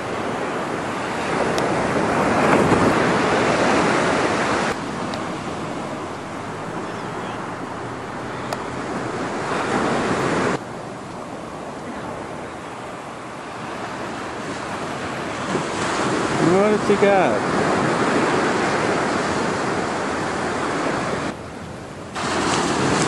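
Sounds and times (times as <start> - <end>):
surf washing onto beach: 0.0 - 21.4, 22.1 - 23.0.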